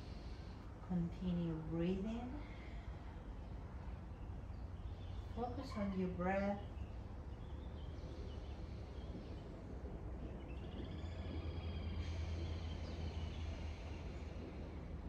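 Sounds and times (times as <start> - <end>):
faint birds chirping and trilling: 0.0 - 15.0
steady low hum: 0.0 - 15.0.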